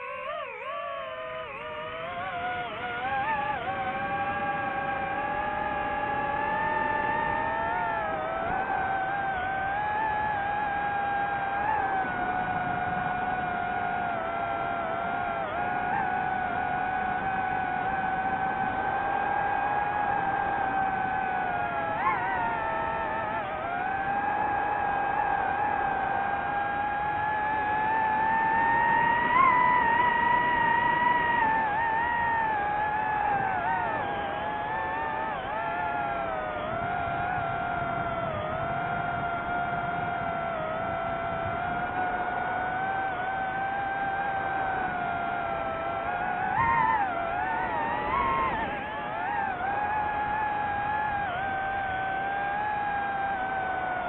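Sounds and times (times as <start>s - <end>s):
drone propellers whining: 0.0s - 54.0s.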